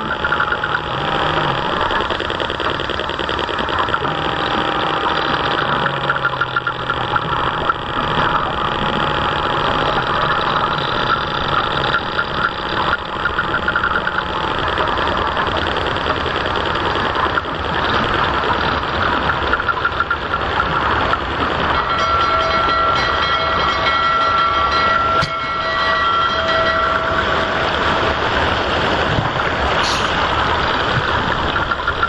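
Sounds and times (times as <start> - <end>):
model boat motor running: 0.0 - 32.0
water washing along hull: 0.0 - 32.0.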